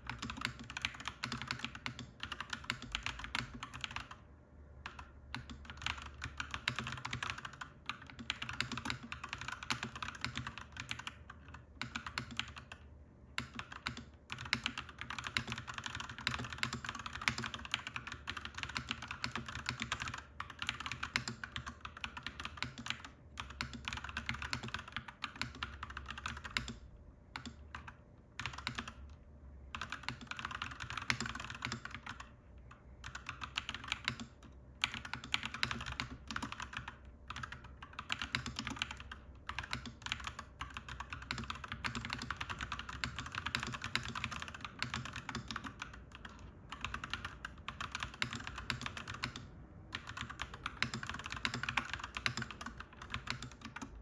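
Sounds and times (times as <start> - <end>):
mechanical keyboard typing: 0.0 - 4.2, 4.8 - 54.0.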